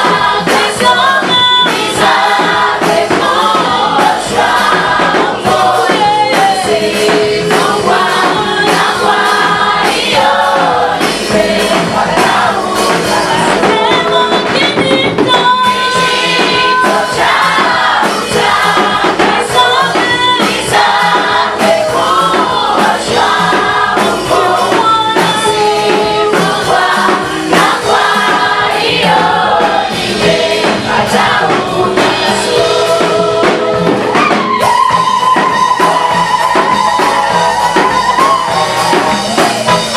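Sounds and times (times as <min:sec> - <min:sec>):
choir singing gospel: 0:00.0 - 0:39.9
instrumental accompaniment: 0:00.0 - 0:39.9.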